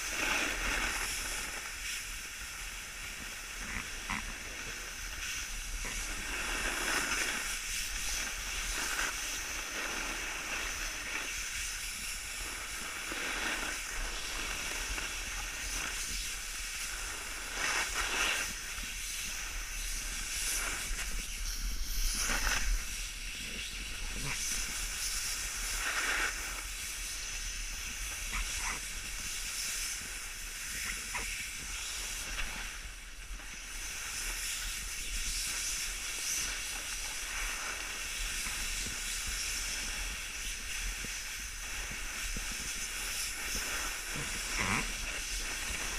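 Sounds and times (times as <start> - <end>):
sliding over packed snow: 0.0 - 45.9
wind rumble on microphone: 0.0 - 45.9.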